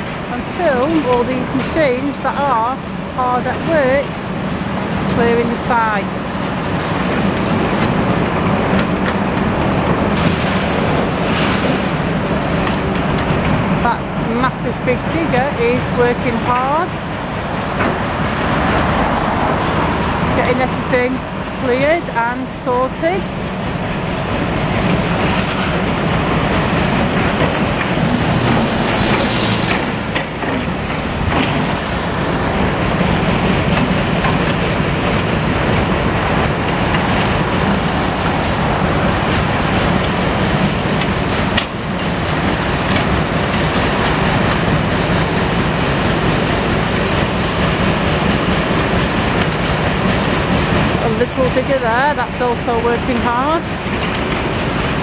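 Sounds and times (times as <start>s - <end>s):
excavator diesel engines rumbling: 0.0s - 55.0s.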